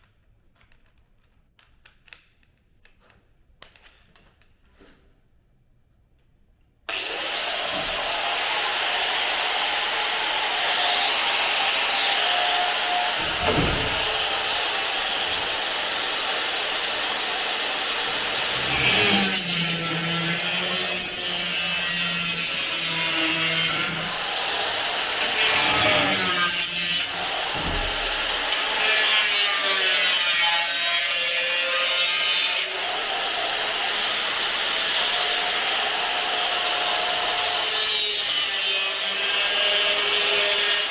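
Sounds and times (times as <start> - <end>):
power tool cutting steel: 6.9 - 40.9.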